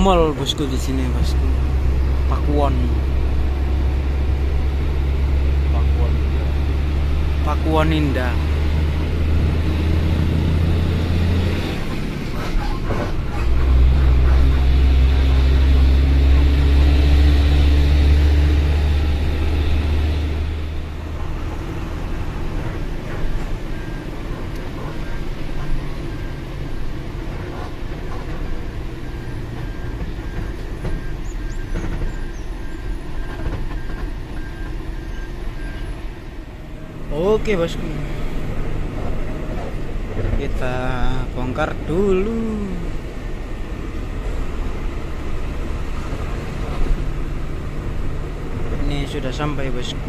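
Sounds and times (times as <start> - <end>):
diesel truck engine from inside cab: 0.0 - 50.0.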